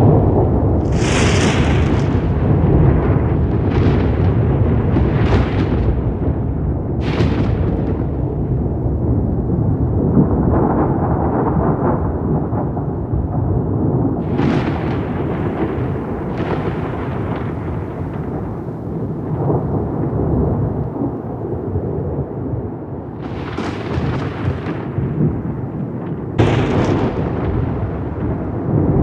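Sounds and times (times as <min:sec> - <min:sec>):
thunder cracks: 0:00.0 - 0:29.0
thunder rumbling: 0:00.0 - 0:29.0.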